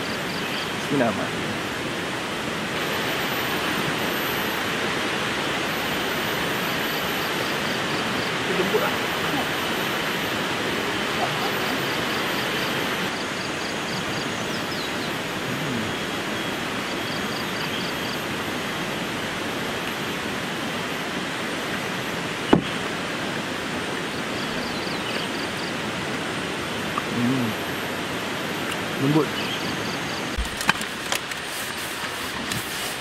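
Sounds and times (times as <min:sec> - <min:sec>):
rushing background noise: 0:00.0 - 0:33.0.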